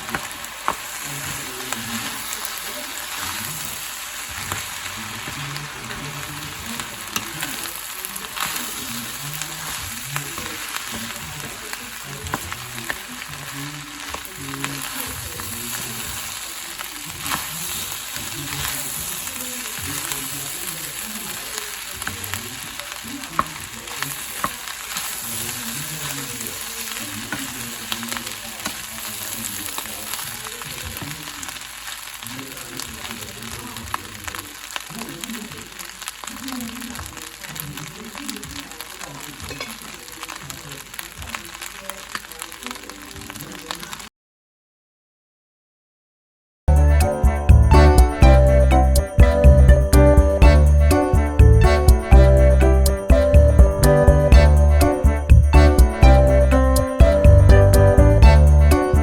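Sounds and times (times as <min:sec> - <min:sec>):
rice sizzling in hot pan: 0:00.0 - 0:44.1, 0:46.7 - 0:59.0.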